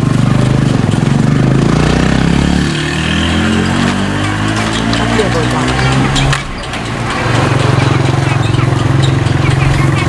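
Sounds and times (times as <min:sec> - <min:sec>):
engine running and speeding up: 0:00.0 - 0:10.0.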